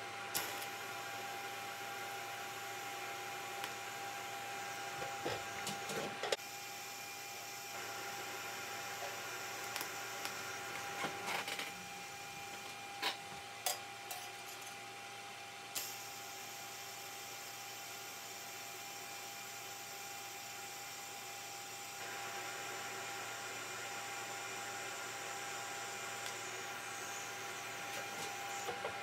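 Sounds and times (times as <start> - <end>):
welding arc hiss: 0.0 - 13.2, 15.7 - 29.0.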